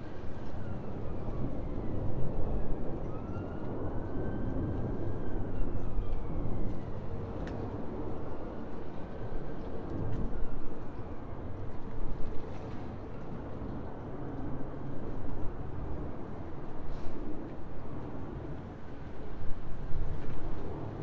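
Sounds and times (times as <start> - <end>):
plane flying overhead: 0.0 - 21.0.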